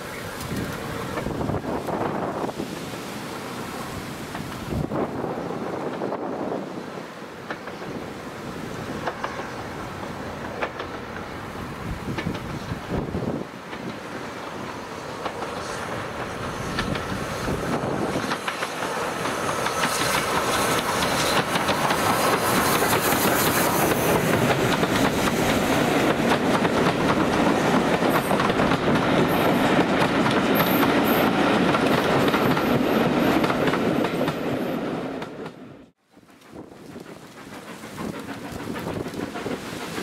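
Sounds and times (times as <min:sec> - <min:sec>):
steam train running past: 0:00.0 - 0:40.0.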